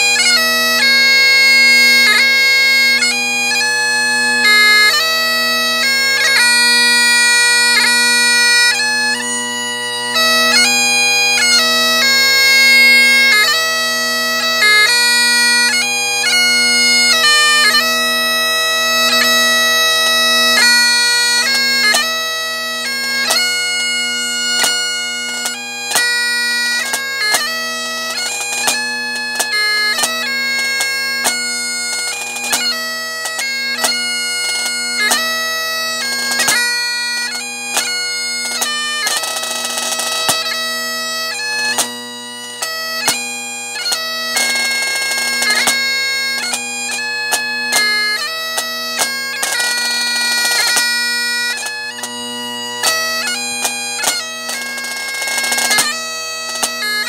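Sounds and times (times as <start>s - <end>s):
bagpipe playing a tune: 0.0s - 57.0s.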